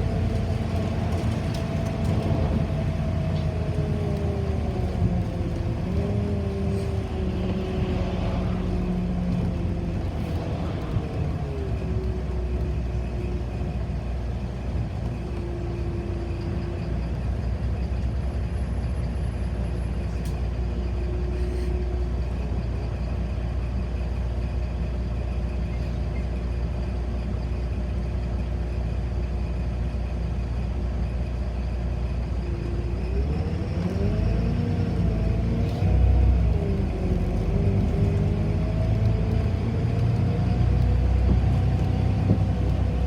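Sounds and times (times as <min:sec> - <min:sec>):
drivetrain whine: 0:00.0 - 0:28.8, 0:30.4 - 0:43.0
bus engine and road rumble: 0:00.0 - 0:43.0.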